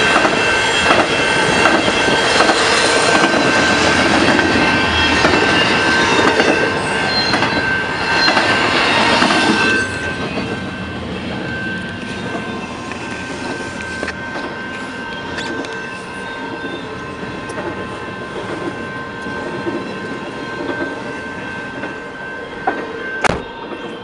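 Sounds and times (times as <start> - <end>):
freight train rumbling: 0.0 - 24.0
high squeal: 0.0 - 24.0.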